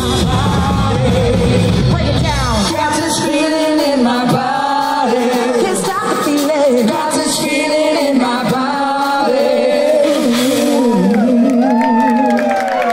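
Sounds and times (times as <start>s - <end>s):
woman singing into microphone: 0.0s - 12.5s
live band playing: 0.0s - 12.9s.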